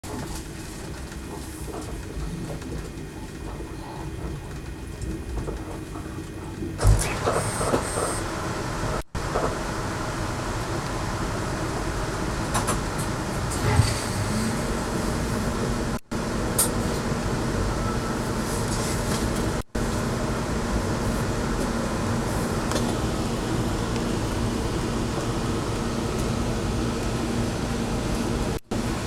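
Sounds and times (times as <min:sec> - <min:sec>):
passenger train rumbling: 0:00.0 - 0:29.0.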